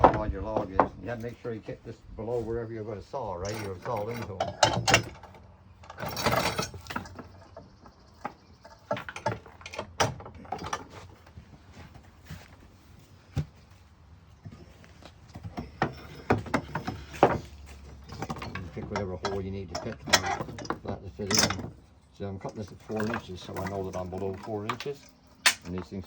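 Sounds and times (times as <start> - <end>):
metal parts knocking and clunking: 0.0 - 1.3, 3.2 - 11.5, 14.4 - 26.0.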